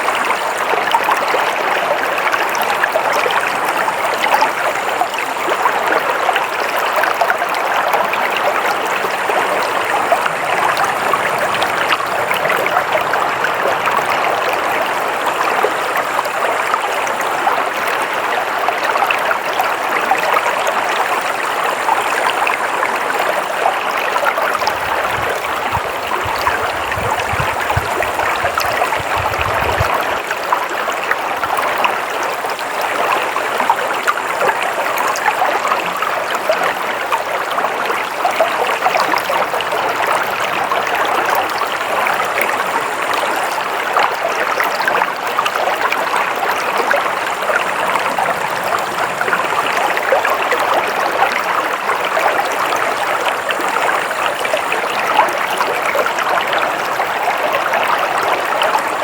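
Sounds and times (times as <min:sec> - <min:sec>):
water stream flowing and splashing: 0:00.0 - 0:59.0.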